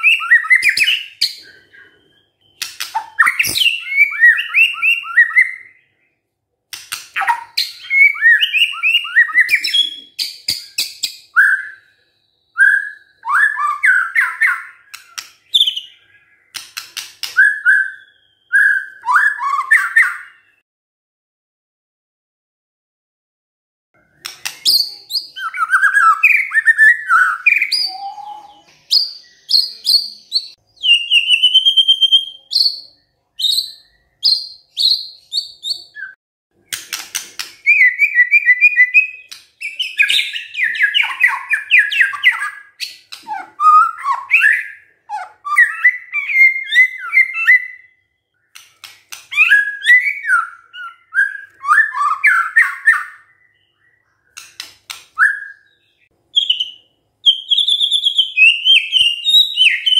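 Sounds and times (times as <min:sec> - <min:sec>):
bird singing whistles and warbles: 0:00.0 - 0:06.2, 0:06.9 - 0:20.6, 0:24.1 - 0:59.9.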